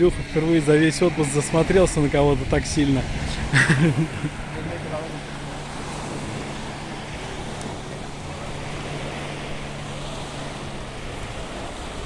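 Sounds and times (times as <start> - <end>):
sea surf: 0.0 - 12.0
wind buffeting microphone: 0.0 - 12.0.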